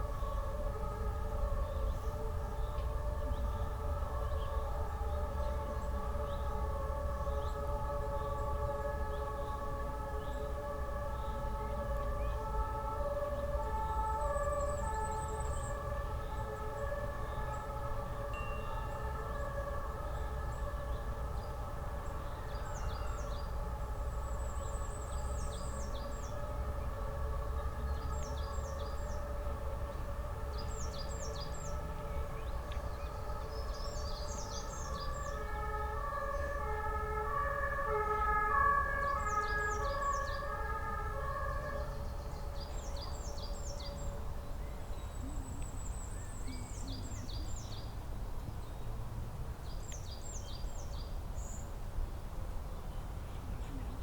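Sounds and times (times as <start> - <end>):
songbirds singing: 0.0 - 51.8.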